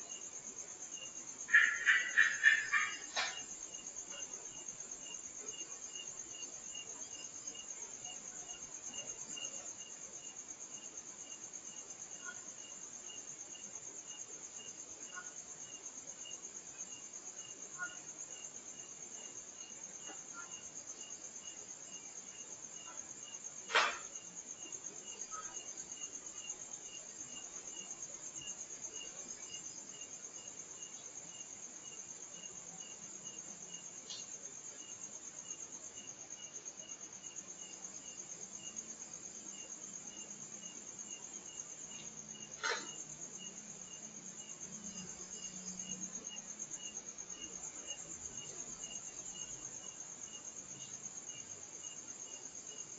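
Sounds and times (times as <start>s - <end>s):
crickets trilling: 0.0s - 52.9s
insect chirping: 0.0s - 52.9s.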